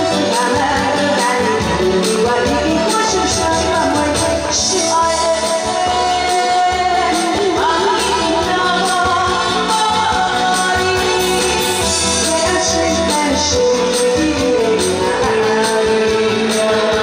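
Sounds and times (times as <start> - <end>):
pop backing music with beat: 0.0 - 17.0
woman singing: 0.0 - 17.0.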